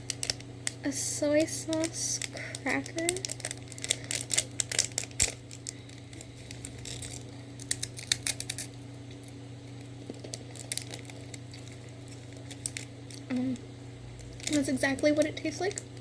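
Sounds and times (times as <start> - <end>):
crunching rice cracker: 0.0 - 16.0.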